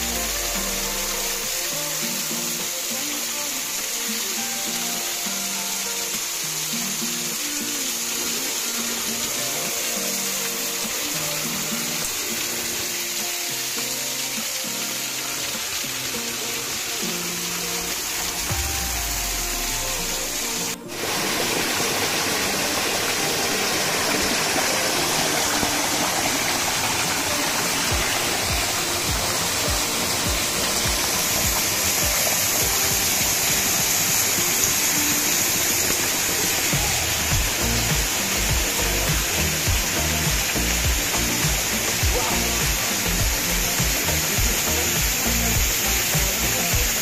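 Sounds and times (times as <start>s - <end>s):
background music: 0.0s - 47.0s
waterfall splashing onto rocks: 0.0s - 47.0s.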